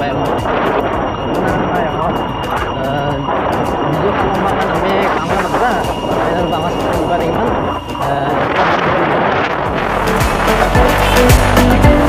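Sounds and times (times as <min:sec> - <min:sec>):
vehicle moving along road: 0:00.0 - 0:12.0
wind rushing over microphone: 0:00.0 - 0:12.0.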